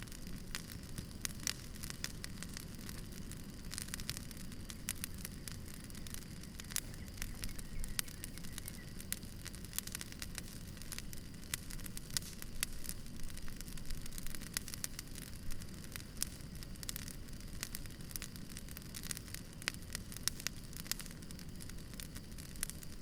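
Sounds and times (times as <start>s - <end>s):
campfire crackling: 0.0s - 23.0s
low rumble of fire: 0.0s - 23.0s.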